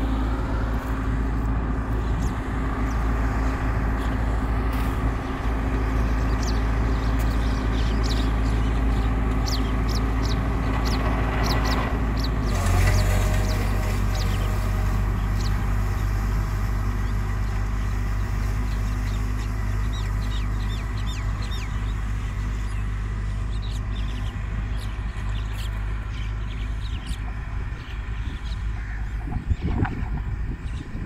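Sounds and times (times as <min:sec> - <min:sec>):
birds chirping: 0:00.0 - 0:31.0
tractor engine running: 0:00.0 - 0:31.0.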